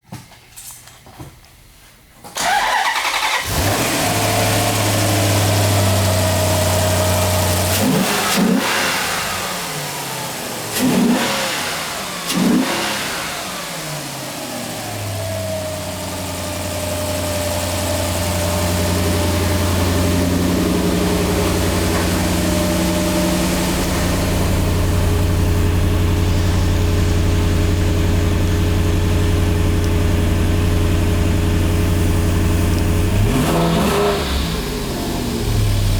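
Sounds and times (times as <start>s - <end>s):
car engine starting and idling: 2.4s - 35.9s.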